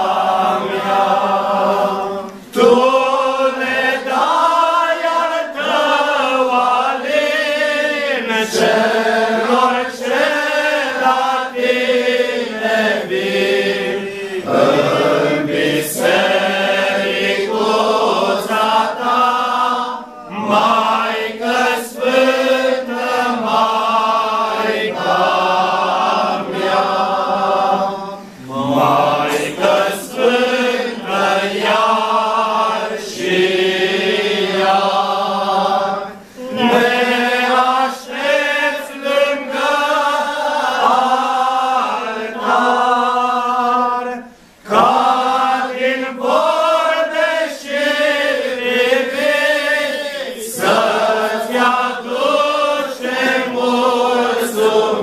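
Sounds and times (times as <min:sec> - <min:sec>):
male choir singing a cappella: 0:00.0 - 0:55.0.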